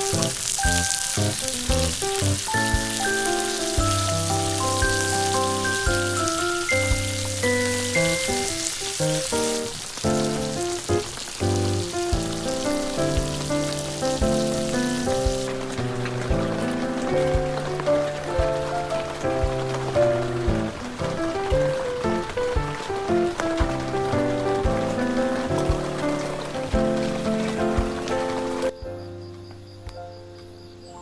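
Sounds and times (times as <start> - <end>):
background music with steady beat: 0.0 - 9.2, 10.0 - 29.2
steady hiss: 0.0 - 31.0.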